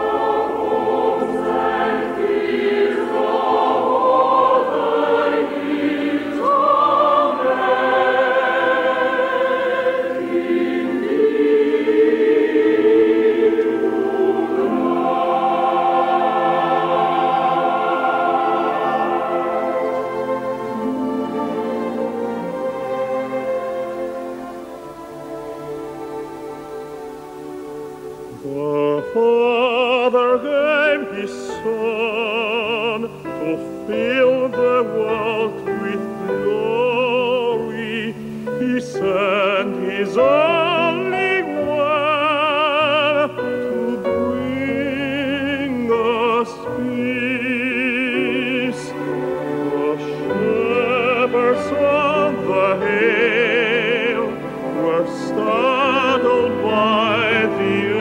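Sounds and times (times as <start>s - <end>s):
operatic solo singing: 0.0s - 58.0s.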